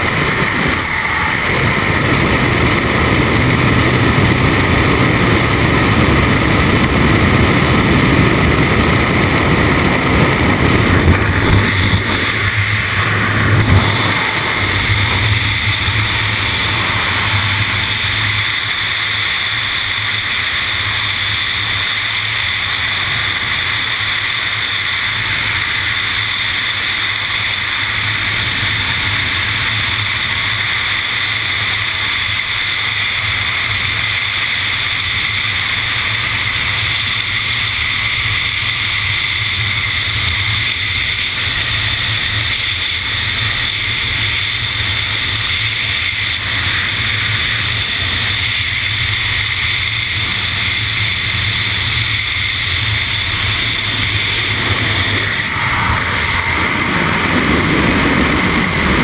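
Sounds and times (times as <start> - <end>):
wind rushing over camera: 0.0 - 59.0.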